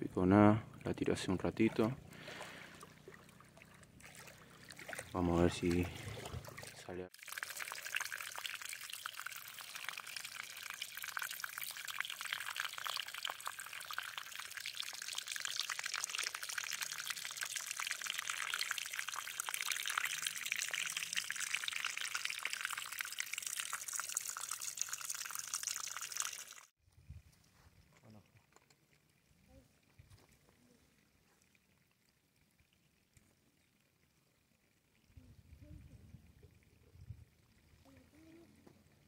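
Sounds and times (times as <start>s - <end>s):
water trickling down rock: 0.7s - 39.0s.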